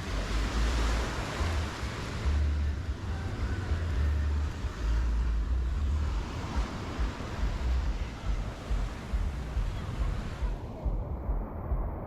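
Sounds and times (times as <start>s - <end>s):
surf hissing on beach: 0.0s - 10.7s
wind buffeting microphone: 0.0s - 12.0s.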